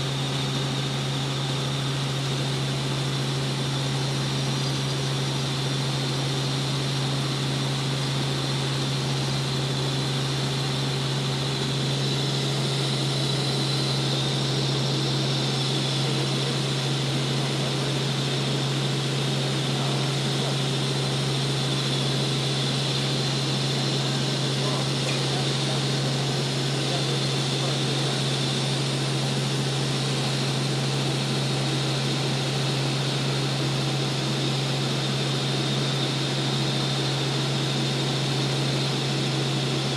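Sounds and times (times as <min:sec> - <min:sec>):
helicopter cabin noise: 0:00.0 - 0:39.9.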